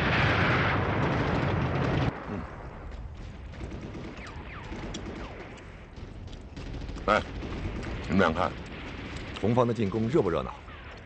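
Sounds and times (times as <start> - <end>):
distant scattered firing: 0.0 - 11.0
gunfire and blasts: 0.0 - 11.0.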